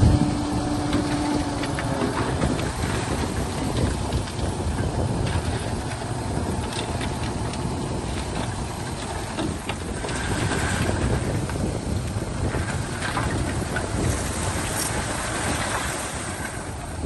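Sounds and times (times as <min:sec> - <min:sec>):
tracks clanking and clicking: 0:00.0 - 0:16.6
bulldozer diesel engine rumbling: 0:00.0 - 0:17.0.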